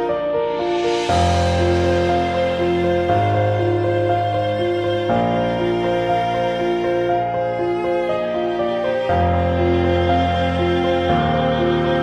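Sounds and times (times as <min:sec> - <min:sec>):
background music with sustained chords: 0:00.0 - 0:12.0.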